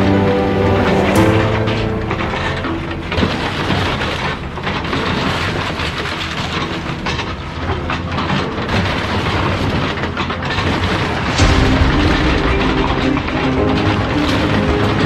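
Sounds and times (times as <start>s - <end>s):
heavy machinery rumble: 0.0s - 15.0s.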